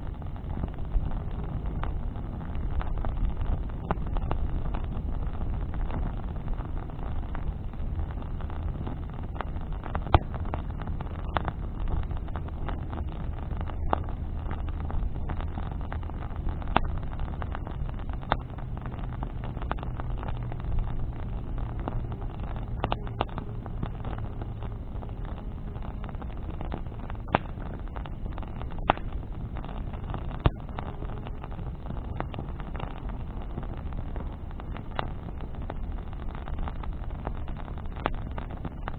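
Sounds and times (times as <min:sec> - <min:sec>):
bonfire crackling and popping: 0:00.0 - 0:38.9
low engine drone: 0:00.0 - 0:38.9.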